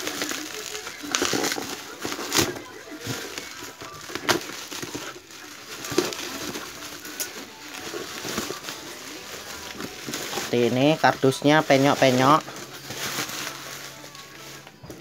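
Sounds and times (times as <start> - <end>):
bubble wrap and tape crinkling: 0.0 - 15.0.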